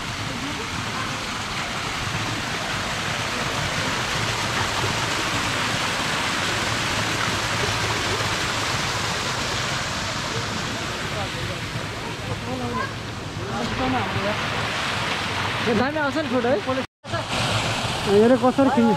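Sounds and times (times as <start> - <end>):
falling water rushing: 0.0 - 18.9.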